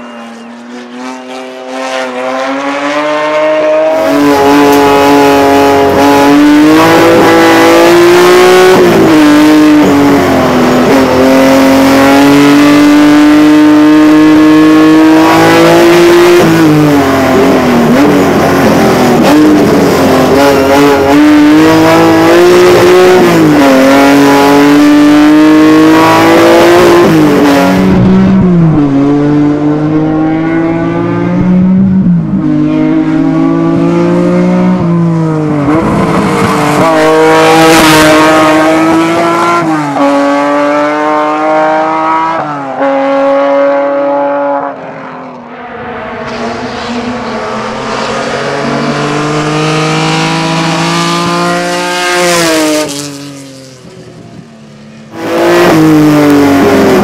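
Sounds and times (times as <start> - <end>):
race car engine revving: 0.0 - 54.4, 55.0 - 57.0.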